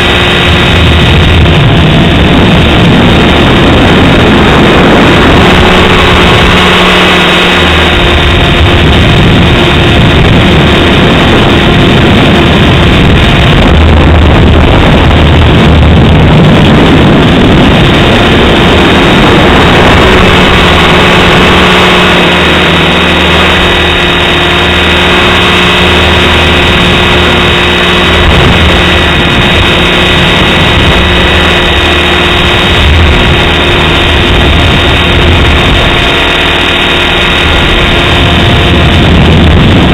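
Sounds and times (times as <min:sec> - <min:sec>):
rc helicopter rotor hum: 0:00.0 - 0:39.9
wind buffeting microphone: 0:00.0 - 0:39.9.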